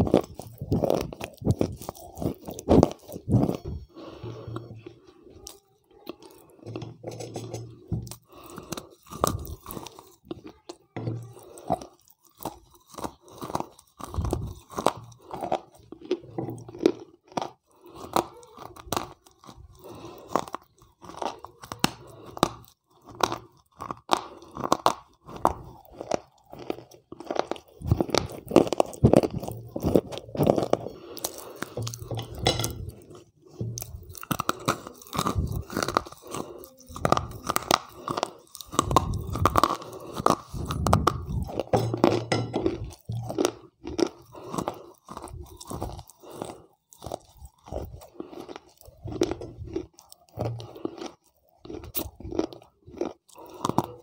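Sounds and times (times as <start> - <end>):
crunchy chewing close to microphone: 0.0 - 54.0.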